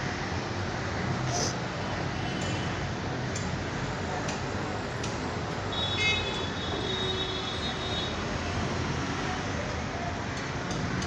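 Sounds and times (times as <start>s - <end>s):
busy street traffic: 0.0s - 11.0s.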